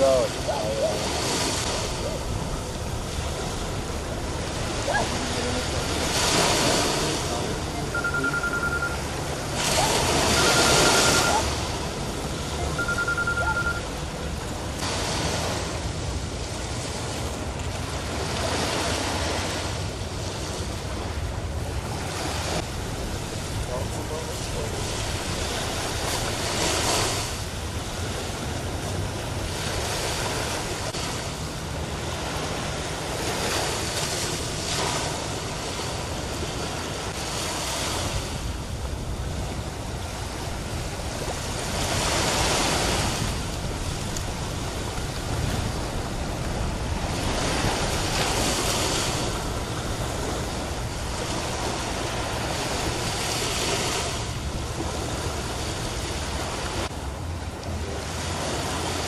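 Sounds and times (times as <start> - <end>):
sea surf on rocks: 0.0 - 59.0.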